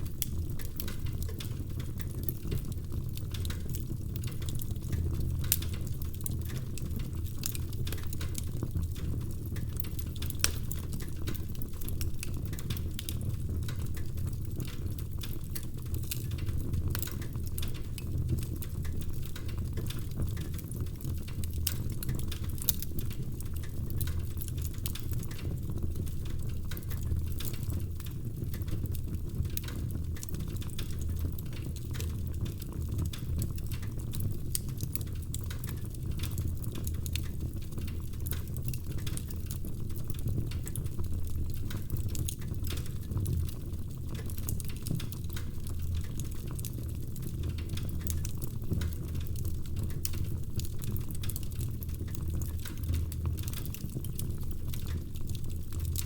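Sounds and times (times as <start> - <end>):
logs crackling and popping: 0.0 - 56.0
low rumble of flame: 0.0 - 56.0.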